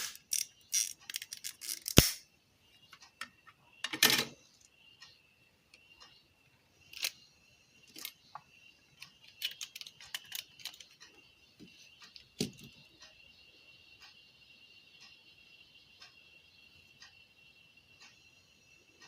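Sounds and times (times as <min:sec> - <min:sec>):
faint high whine: 0:01.8 - 0:19.0.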